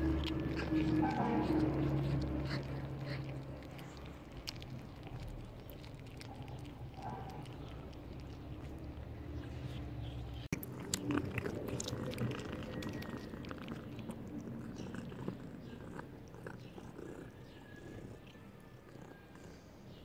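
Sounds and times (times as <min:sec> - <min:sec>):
kitten chewing meat: 0:00.0 - 0:19.7.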